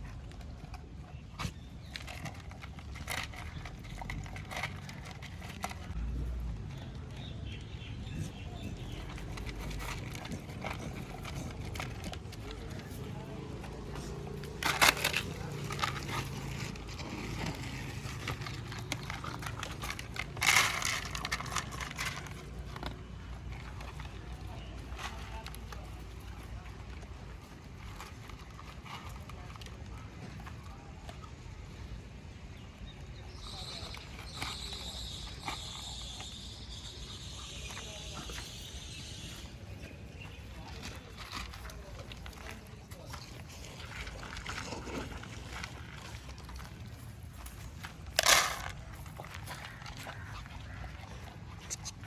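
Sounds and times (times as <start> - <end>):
dog eating food: 0.0 - 52.0.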